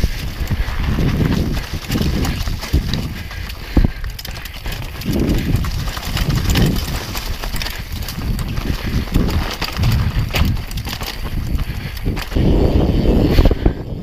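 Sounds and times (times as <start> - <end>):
bike rattling and clicking: 0.0 - 14.0
bike tyres crunching on dirt: 0.0 - 14.0
wind rumble on microphone: 0.0 - 14.0.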